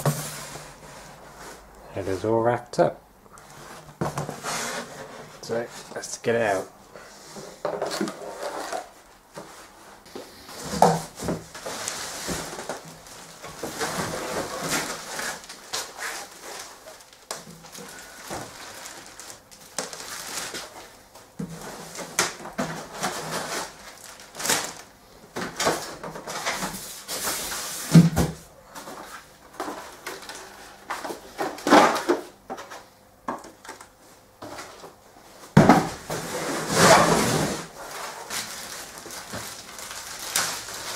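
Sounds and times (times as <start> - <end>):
plastic wrap and cardboard rustling: 0.0 - 2.2, 3.4 - 6.6, 7.2 - 32.9, 33.5 - 40.9.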